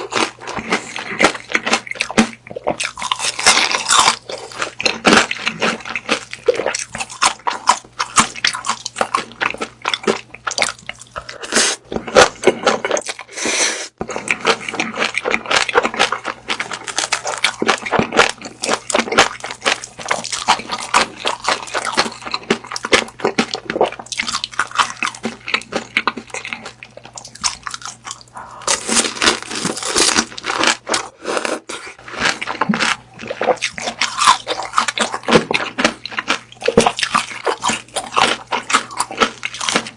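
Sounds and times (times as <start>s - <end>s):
wet crunchy chewing: 0.0s - 39.9s.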